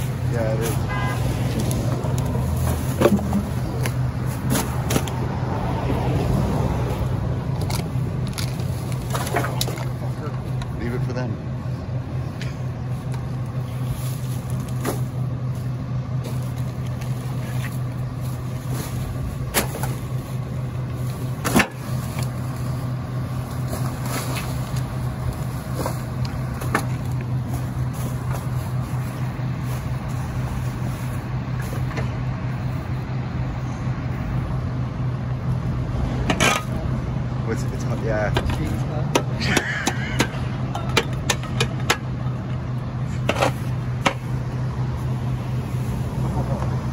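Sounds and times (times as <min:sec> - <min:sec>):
garbage truck engine humming: 0:00.0 - 0:46.9.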